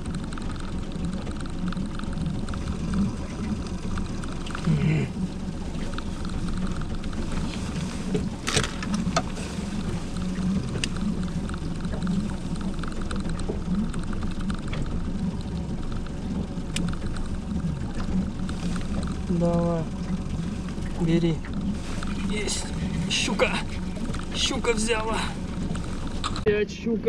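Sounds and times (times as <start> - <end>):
boat engine rumble and hum: 0.0 - 27.0.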